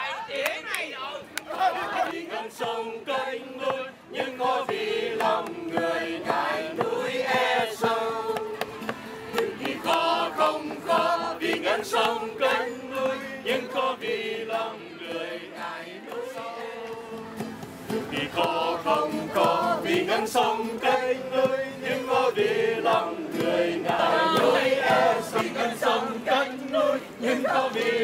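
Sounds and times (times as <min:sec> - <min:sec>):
group singing in unison: 0:00.0 - 0:28.0
strummed acoustic guitar: 0:03.7 - 0:28.0.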